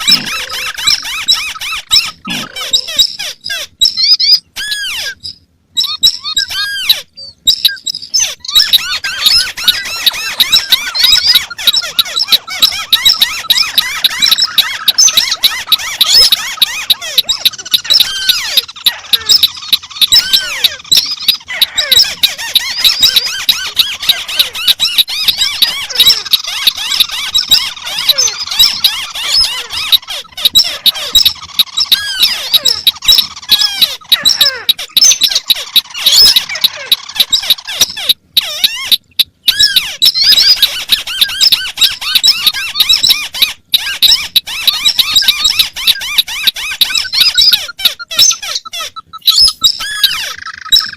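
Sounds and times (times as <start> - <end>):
crake calls chattering: 0.0 - 50.9.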